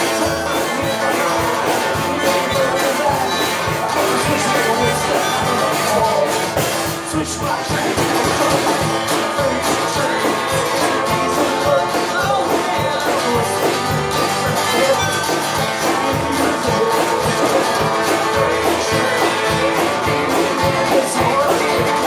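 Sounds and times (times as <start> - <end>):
rock band playing with guitars: 0.0 - 22.0.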